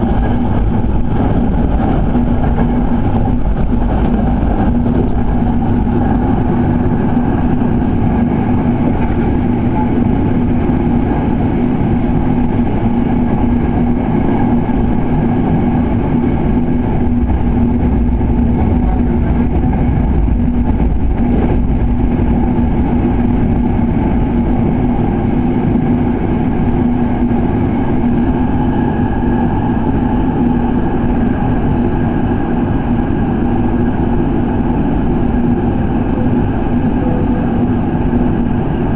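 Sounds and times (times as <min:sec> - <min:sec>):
train motor hum: 0:00.0 - 0:38.9
train wheels rumbling on rail: 0:00.0 - 0:38.9.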